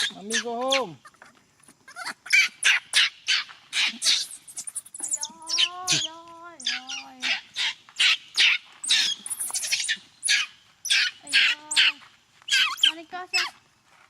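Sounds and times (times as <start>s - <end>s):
infant monkey screaming: 0.0s - 13.6s.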